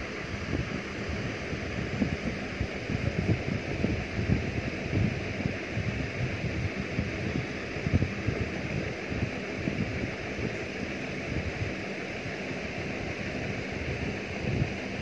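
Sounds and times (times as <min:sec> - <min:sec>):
wind buffeting microphone: 0:00.1 - 0:11.8, 0:13.4 - 0:15.0.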